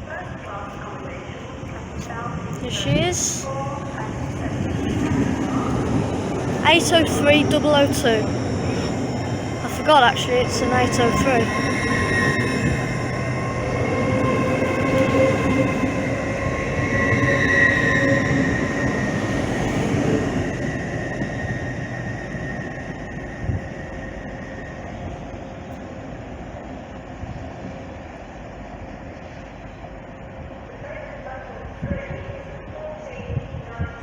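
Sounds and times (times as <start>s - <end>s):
electric whine of train: 0.0s - 34.0s
train wheels rumbling on rail: 0.0s - 34.0s.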